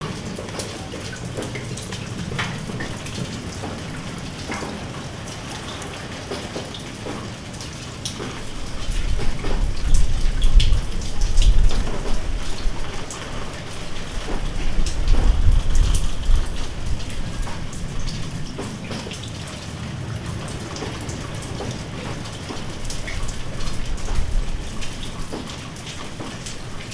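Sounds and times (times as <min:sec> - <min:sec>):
raindrops ticking on a surface: 0:00.0 - 0:26.9
steady rain falling: 0:00.0 - 0:26.9.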